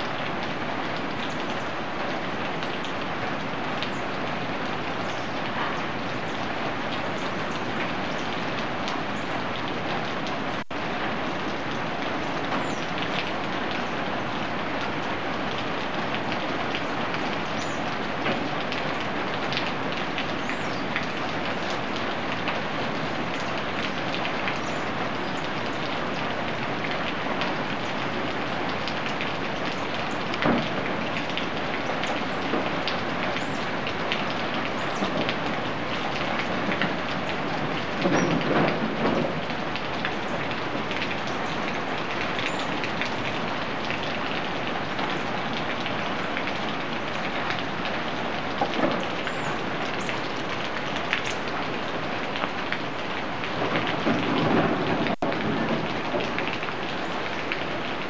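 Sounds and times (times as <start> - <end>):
steady rain on leaves: 0.0 - 58.0.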